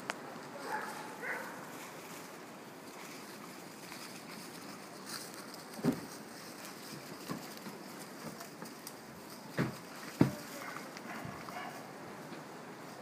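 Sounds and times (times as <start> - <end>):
trotters rustling dry leaves: 0.0 - 13.0.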